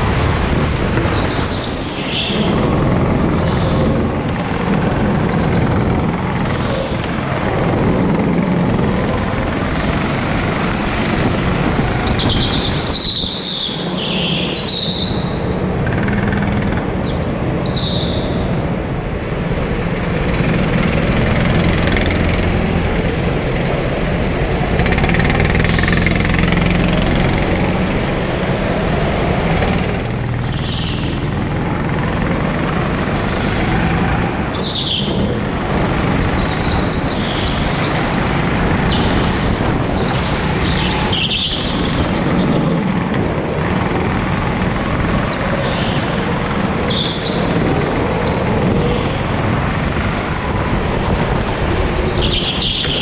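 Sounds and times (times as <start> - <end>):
go-kart engines droning: 0.0 - 53.0.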